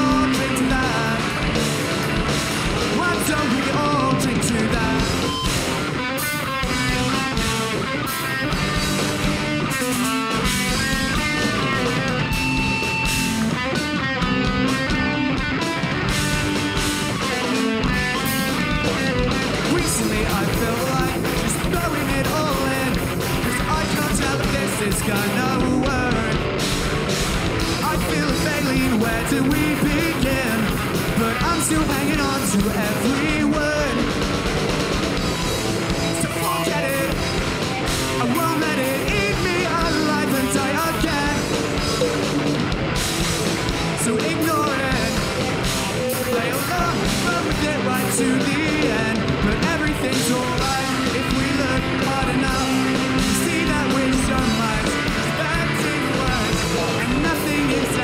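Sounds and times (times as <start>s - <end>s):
drum kit: 0.0s - 58.0s
electric bass: 0.0s - 58.0s
electric guitars: 0.0s - 58.0s.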